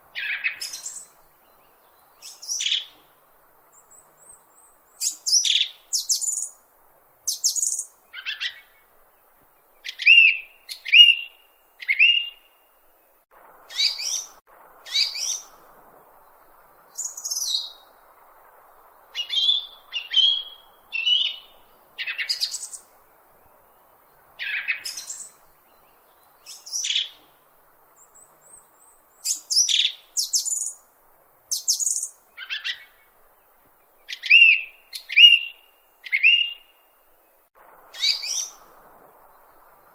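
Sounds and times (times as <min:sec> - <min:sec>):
bird chirping: 0:00.1 - 0:06.6, 0:07.2 - 0:30.9, 0:31.5 - 0:39.9.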